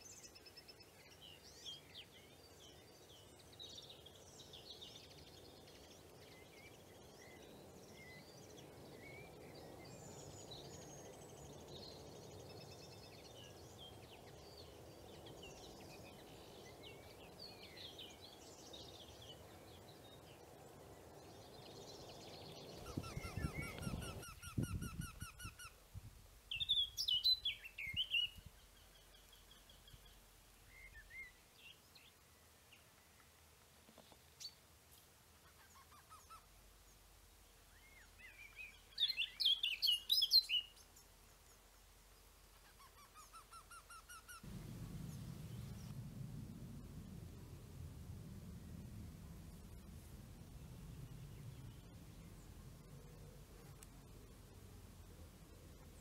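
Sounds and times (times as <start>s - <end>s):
steady low background noise: 0.0s - 24.5s, 25.1s - 56.0s
small birds chirping: 0.0s - 25.8s, 26.5s - 34.7s, 35.4s - 46.2s, 48.8s - 56.0s.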